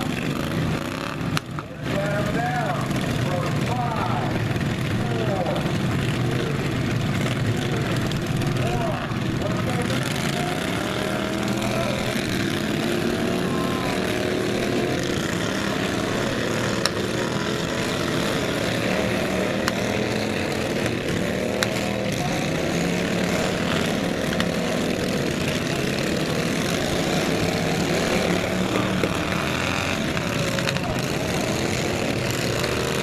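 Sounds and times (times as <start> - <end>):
lawn mower engines revving: 0.0 - 33.0.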